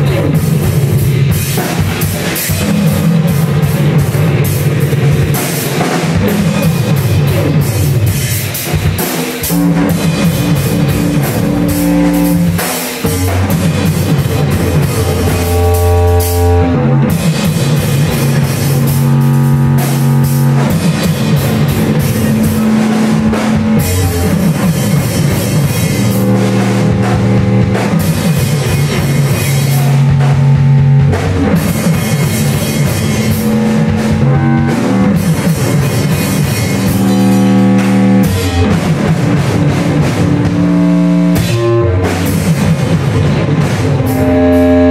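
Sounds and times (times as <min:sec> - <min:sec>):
electric guitar: 0:00.0 - 0:44.9
pounding drum kit: 0:00.0 - 0:44.9.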